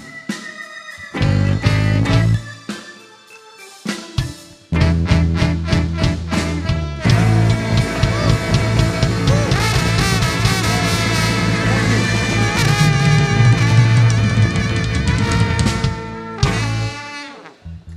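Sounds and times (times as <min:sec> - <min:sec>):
blues band with brass: 0:00.0 - 0:17.9.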